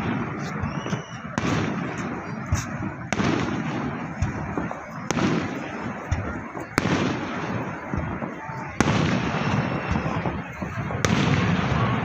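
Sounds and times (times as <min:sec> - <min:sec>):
background noise: 0:00.0 - 0:12.0
fireworks bangs: 0:00.0 - 0:12.0
small firework pops: 0:00.0 - 0:12.0.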